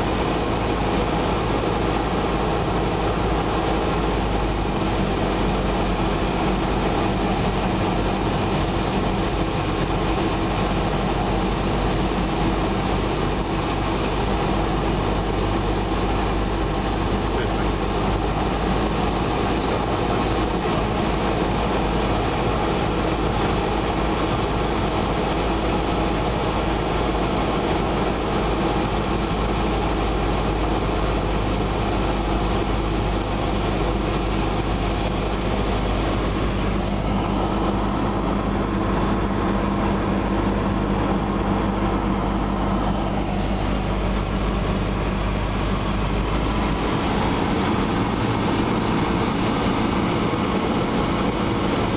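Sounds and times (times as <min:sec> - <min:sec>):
aircraft engine and propeller: 0:00.0 - 0:51.9.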